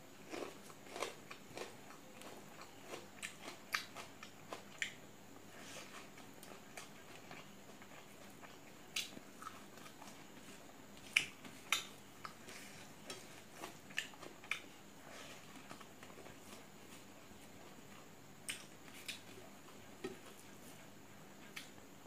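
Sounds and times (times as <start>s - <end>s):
chewing: 0.2s - 21.8s.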